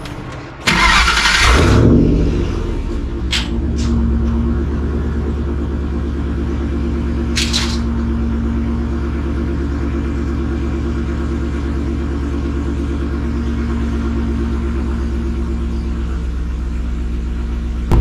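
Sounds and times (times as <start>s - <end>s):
truck engine idling: 0.6s - 18.0s.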